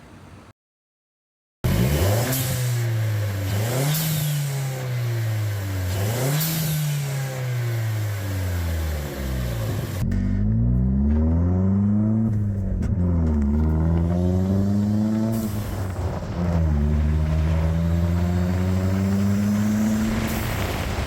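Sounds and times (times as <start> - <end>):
car engine revving: 1.6 - 21.0.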